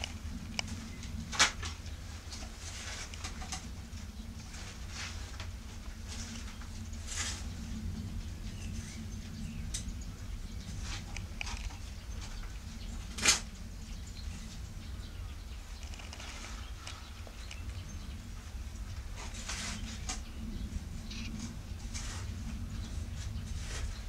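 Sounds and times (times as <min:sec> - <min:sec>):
low rumble: 0:00.0 - 0:24.0
rustling and scraping of leaves: 0:00.0 - 0:24.0.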